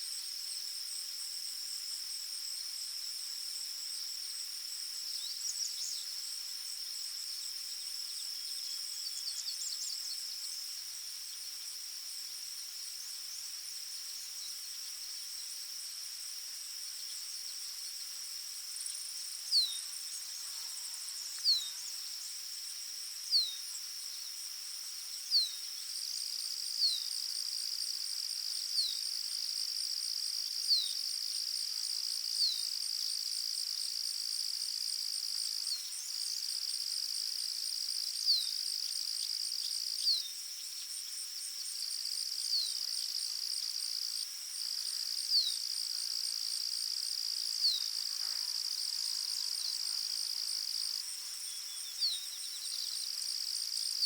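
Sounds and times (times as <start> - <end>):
insects trilling: 4.0 - 54.0.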